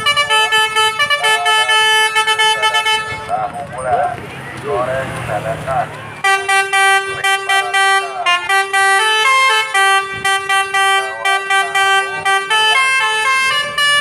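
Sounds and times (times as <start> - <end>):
bus musical horn tune: 0.0 - 3.6, 4.2 - 14.0.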